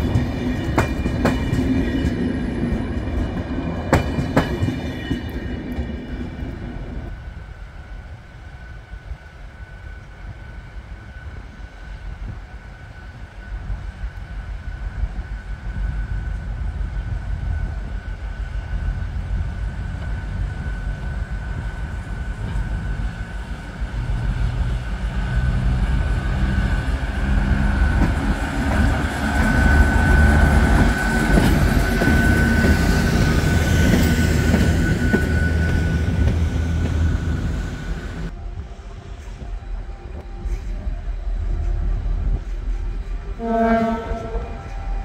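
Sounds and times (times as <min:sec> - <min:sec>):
diesel locomotive engine rumble: 0:00.0 - 0:45.0.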